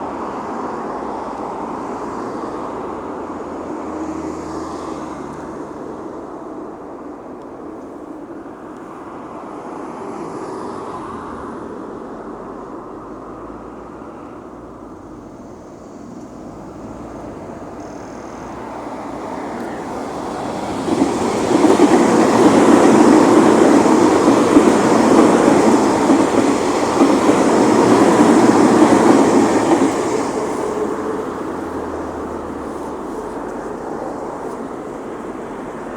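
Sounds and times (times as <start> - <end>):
electric train running past: 0.0 - 35.9.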